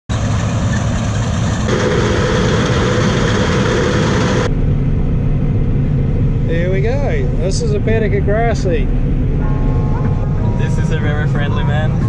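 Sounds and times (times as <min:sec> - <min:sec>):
harvest machinery engine hum: 0:00.1 - 0:12.0.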